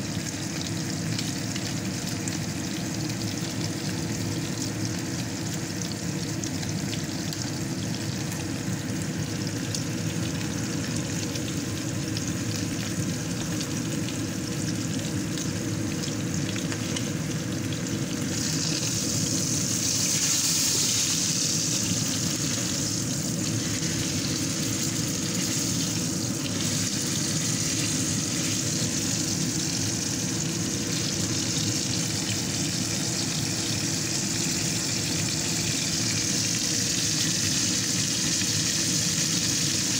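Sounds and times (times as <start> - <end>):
steak sizzling in frying pan: 0.0 - 39.9.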